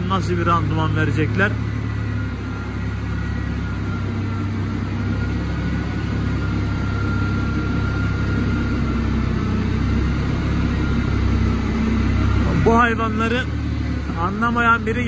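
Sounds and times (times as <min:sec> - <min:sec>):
faint steady whine: 0:00.0 - 0:15.0
tractor engine running: 0:00.0 - 0:15.0.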